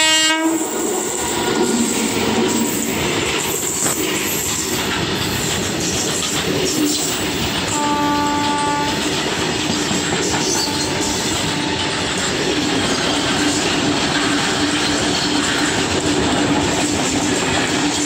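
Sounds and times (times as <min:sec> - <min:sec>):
freight train wheels clattering: 0:00.8 - 0:18.0.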